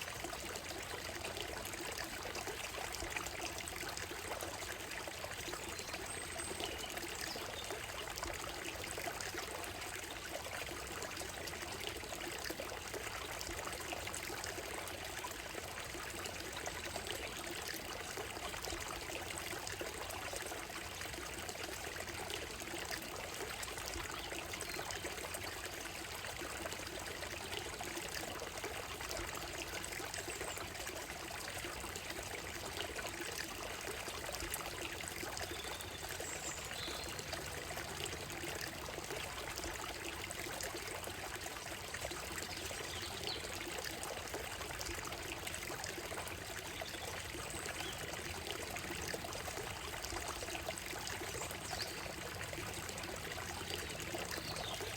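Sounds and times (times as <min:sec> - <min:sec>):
stream trickling over stones: 0:00.0 - 0:54.9.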